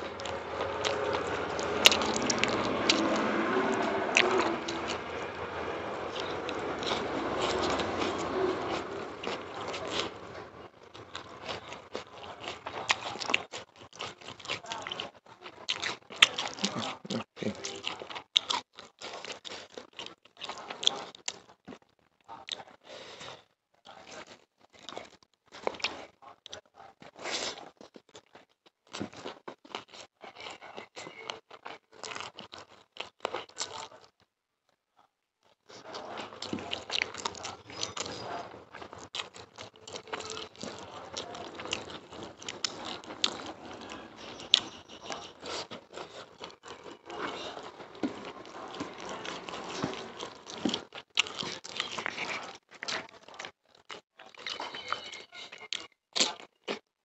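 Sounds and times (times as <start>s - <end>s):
fingers squishing rice and curry: 0.0s - 34.2s, 35.5s - 56.9s
chewing and crunching: 0.0s - 34.3s, 35.0s - 57.0s.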